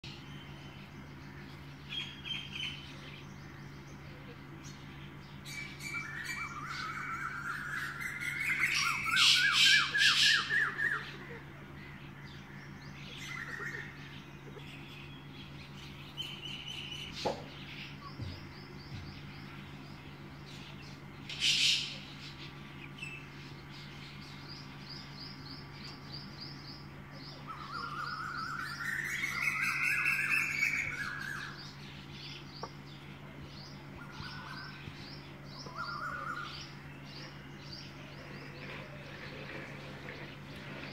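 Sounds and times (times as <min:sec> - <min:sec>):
birds calling: 0:00.0 - 0:40.9
steady low hum: 0:00.0 - 0:40.9.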